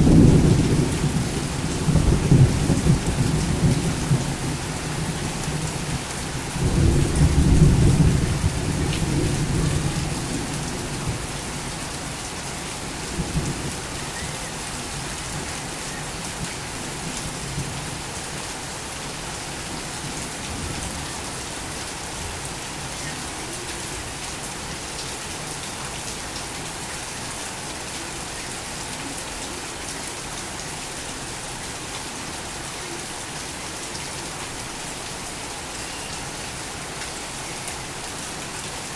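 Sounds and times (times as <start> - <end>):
torrential rain: 0.0 - 38.9.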